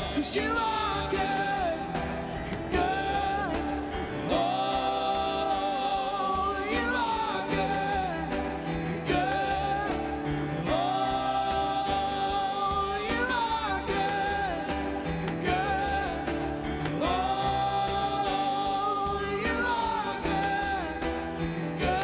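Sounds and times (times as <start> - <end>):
band playing: 0.0 - 22.0.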